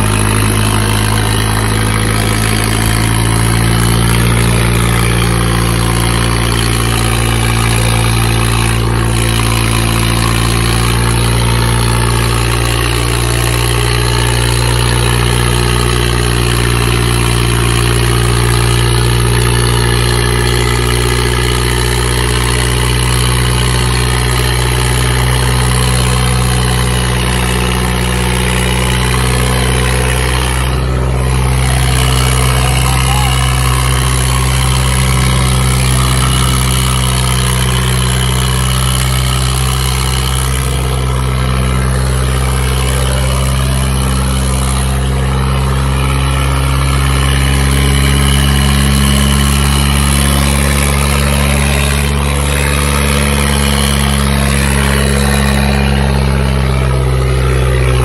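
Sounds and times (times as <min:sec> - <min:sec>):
diesel tractor engines under load: 0:00.0 - 0:58.0.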